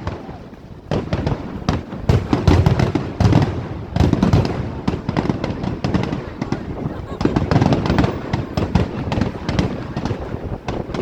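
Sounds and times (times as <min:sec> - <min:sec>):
fireworks booming: 0:00.0 - 0:11.0
fireworks crackling pops: 0:00.0 - 0:11.0.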